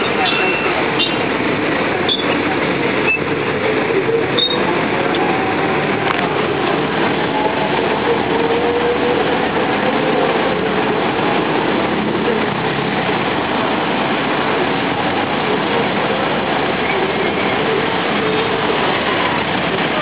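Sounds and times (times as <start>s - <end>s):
road train engine rumble: 0.0s - 20.0s
street noise: 0.0s - 20.0s.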